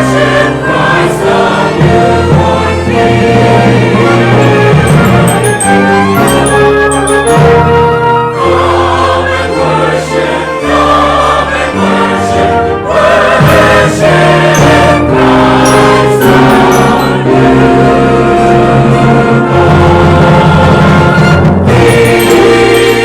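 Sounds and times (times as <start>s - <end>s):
choir singing: 0.0s - 6.6s, 7.2s - 23.0s
orchestral accompaniment: 0.2s - 23.0s.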